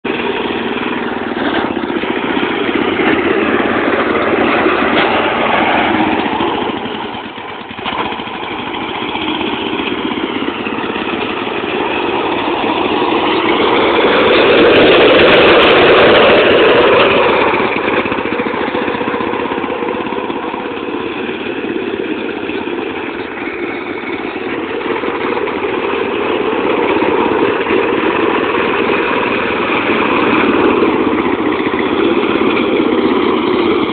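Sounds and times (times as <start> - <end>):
riding lawn mower engine revving: 0.0 - 33.9.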